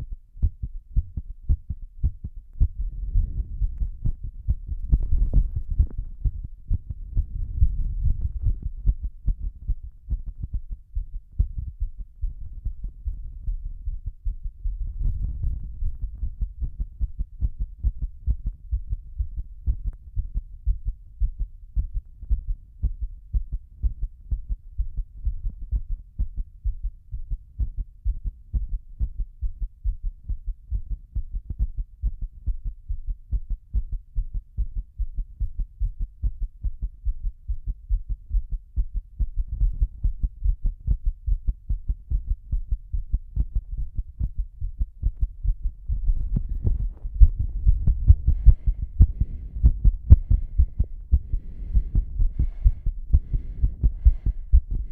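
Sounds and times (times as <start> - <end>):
heartbeat pounding: 0.0 - 54.9.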